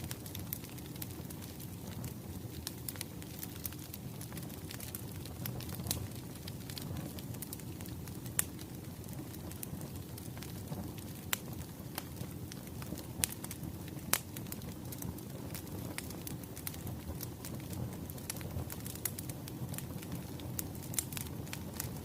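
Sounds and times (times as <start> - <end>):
low rumble of burning logs: 0.0 - 22.0
wood fire crackling: 0.0 - 22.0.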